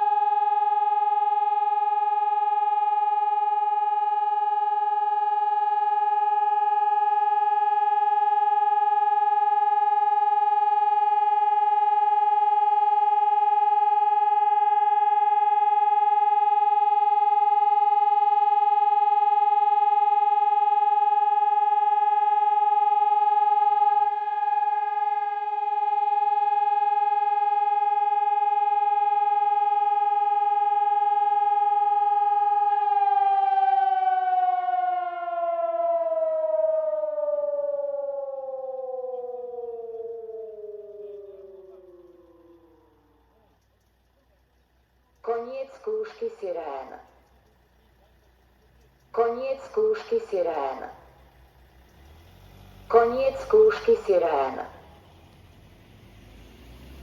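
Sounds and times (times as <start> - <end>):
electronic siren steady tone: 0.0 - 44.3, 45.3 - 47.6, 49.0 - 57.0.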